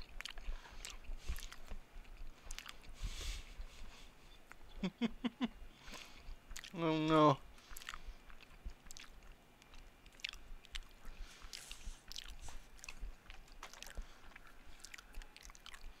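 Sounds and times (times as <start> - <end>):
person chewing wet mouth clicks: 0.0 - 3.0, 5.9 - 16.0.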